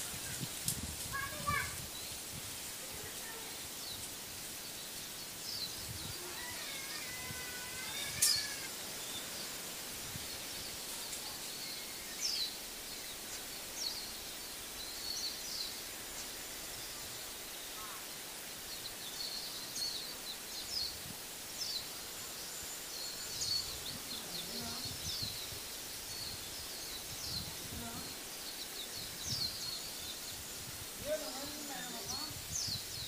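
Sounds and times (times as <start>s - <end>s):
small birds chirping: 0.0s - 33.0s
steady background hiss: 0.0s - 33.0s.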